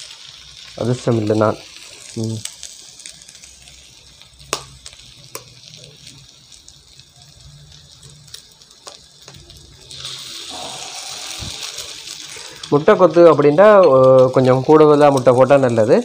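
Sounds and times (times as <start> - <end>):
egg sizzling in hot pan: 0.0 - 16.0
vegetables sizzling in a wok: 0.0 - 16.0.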